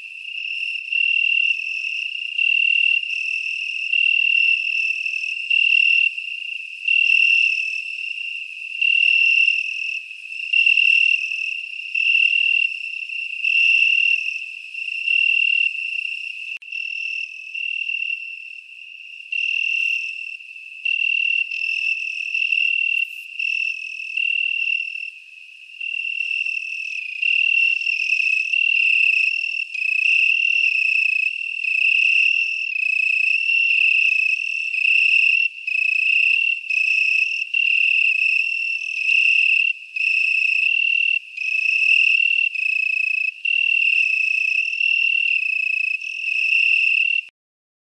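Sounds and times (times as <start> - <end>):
insect chirping trill: 0.0 - 47.3.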